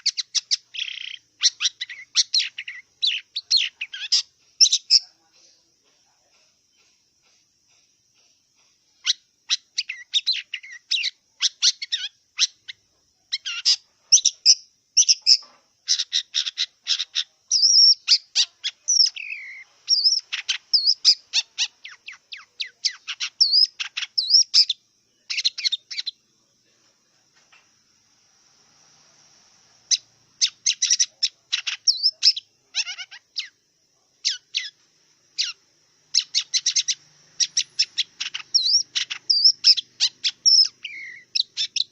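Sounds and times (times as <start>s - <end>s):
shrike singing: 0.0s - 5.3s, 9.0s - 26.7s, 29.8s - 41.9s.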